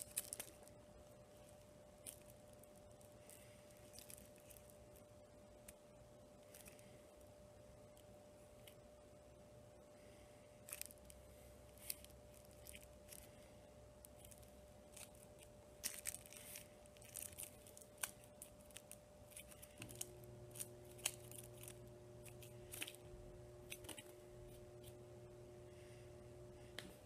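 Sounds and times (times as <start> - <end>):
faint steady hum: 0.0 - 27.0
lower hum: 0.0 - 27.0.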